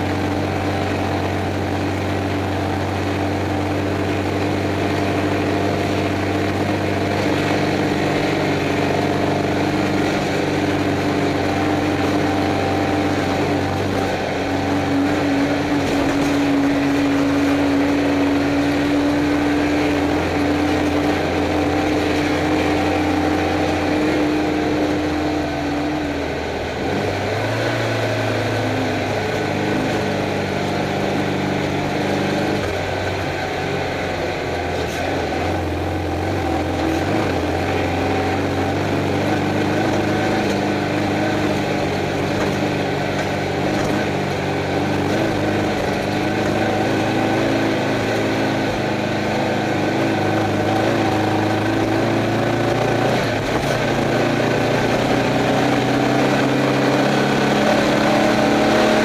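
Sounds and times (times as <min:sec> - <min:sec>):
car engine running hard: 0:00.0 - 0:59.0
road noise: 0:00.0 - 0:59.0.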